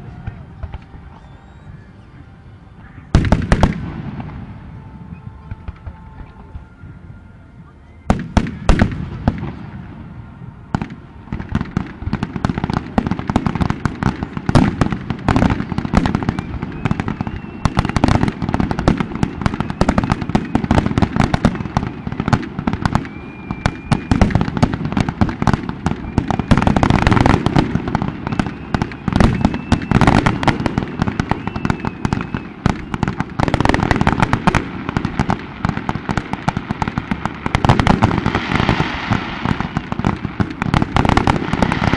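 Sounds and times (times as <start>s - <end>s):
fireworks bangs and crackling: 0.0s - 7.4s, 8.0s - 41.9s
firework whistles: 0.0s - 41.9s.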